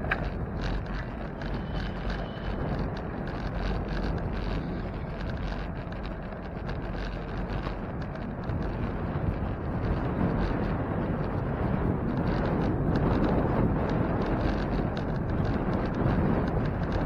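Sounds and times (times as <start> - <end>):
faint bicycle clicks and rattles: 0.0 - 17.0
wind rushing over microphone: 0.0 - 17.0.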